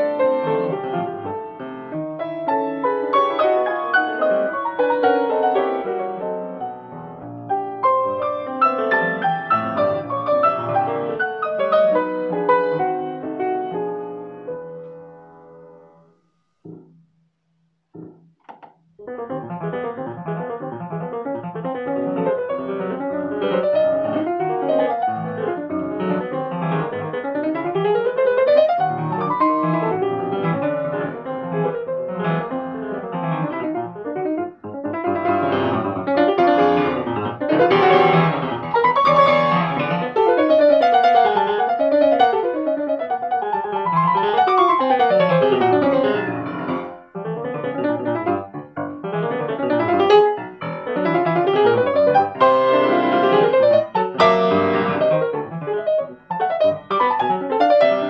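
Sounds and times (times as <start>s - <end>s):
fast loud solo piano: 0.0s - 15.9s, 19.0s - 58.0s.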